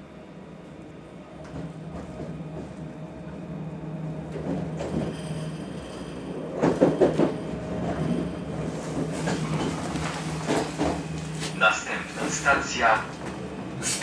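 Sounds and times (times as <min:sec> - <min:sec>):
train running hum: 0:00.0 - 0:14.0.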